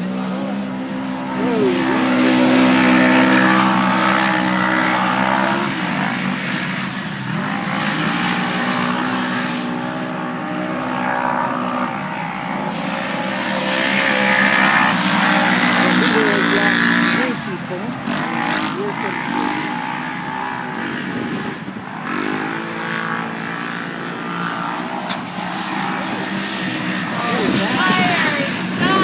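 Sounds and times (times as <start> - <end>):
race vehicle engines passing by: 0.0 - 29.0.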